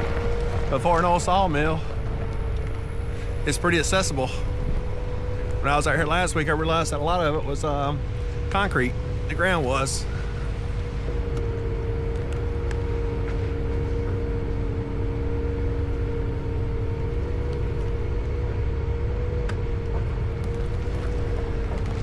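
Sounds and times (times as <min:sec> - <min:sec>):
low rumble: 0:00.0 - 0:22.0
motor humming: 0:00.0 - 0:22.0.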